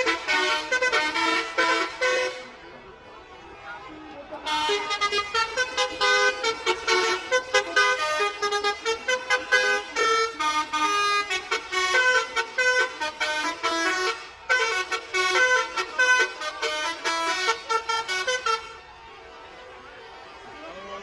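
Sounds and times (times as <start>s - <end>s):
multi-tone bus air horn tune: 0.0s - 2.7s, 4.3s - 18.9s.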